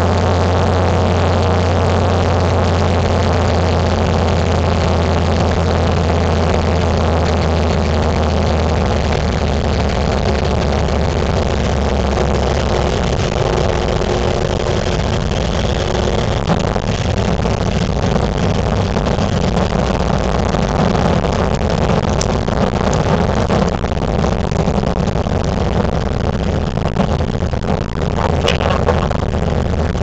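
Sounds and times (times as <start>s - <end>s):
propeller plane engine running: 0.0s - 30.0s.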